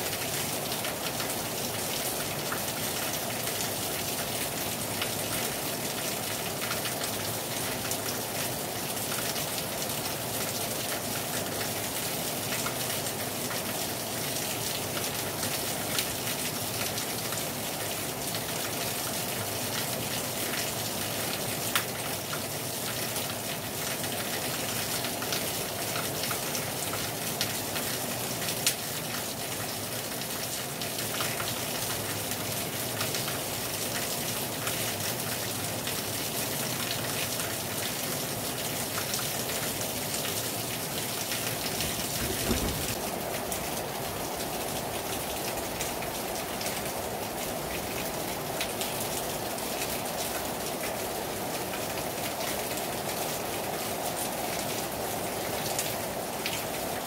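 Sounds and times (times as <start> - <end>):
heavy rain falling: 0.0 - 57.0
rain drops hitting: 0.0 - 57.0.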